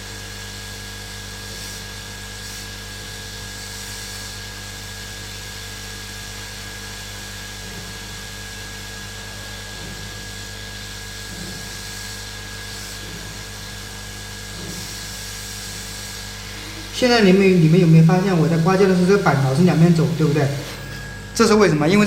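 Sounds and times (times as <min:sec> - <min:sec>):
hot-air station blowing with whine: 0:00.0 - 0:22.0.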